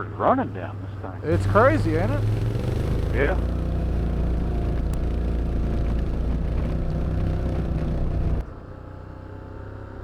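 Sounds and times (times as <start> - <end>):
atv engine running in low gear: 0.7 - 10.0.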